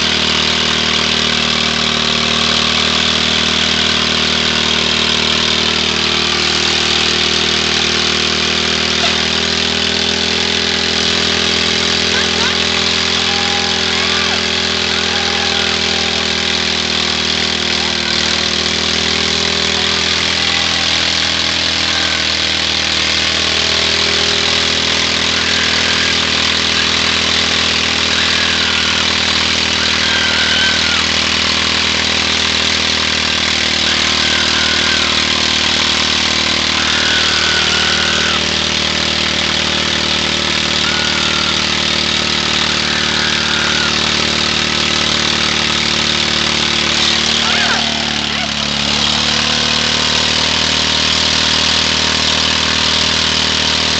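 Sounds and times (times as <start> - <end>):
riding mower engine running: 0.0 - 53.9.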